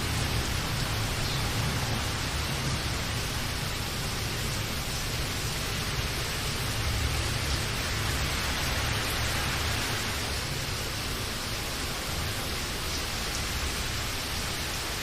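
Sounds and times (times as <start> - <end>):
heavy rainfall: 0.0 - 15.0.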